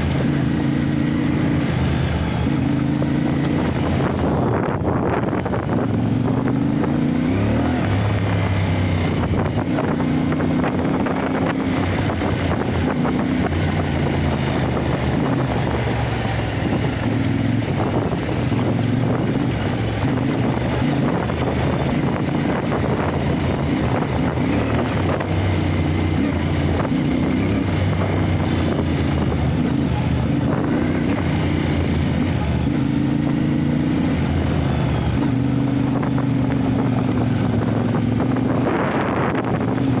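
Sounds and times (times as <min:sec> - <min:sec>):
motorcycle engine revving: 0:00.0 - 0:40.0
wind noise on microphone: 0:00.0 - 0:40.0.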